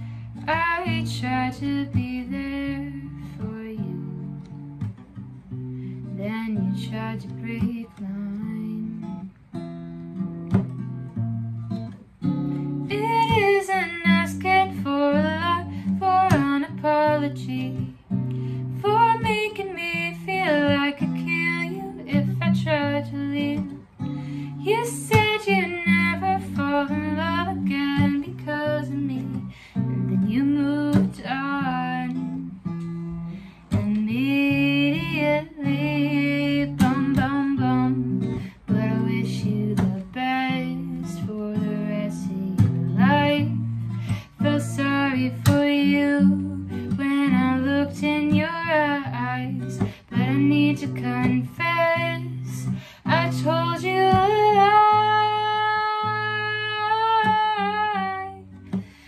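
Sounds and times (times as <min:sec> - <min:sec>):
woman singing: 0:00.0 - 0:04.7, 0:06.0 - 0:09.4, 0:11.8 - 0:59.0
acoustic guitar: 0:00.0 - 0:59.0.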